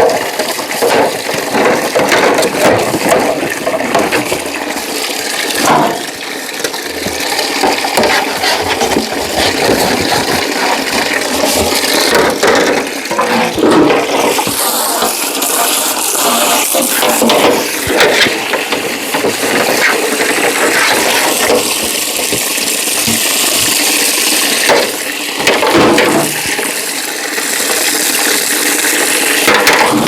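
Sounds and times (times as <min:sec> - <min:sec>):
water running and splashing: 0:00.0 - 0:30.0.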